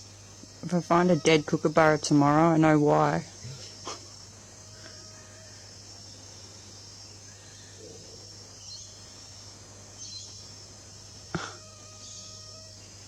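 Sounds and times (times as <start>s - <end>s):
high-pitched insect chorus: 0.0s - 13.0s
low steady hum: 0.0s - 13.0s.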